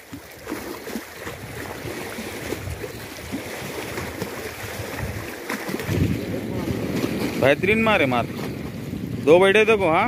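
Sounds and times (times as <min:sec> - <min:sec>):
water lapping and splashing: 0:00.0 - 0:10.0
wind rumble on microphone: 0:01.2 - 0:10.0.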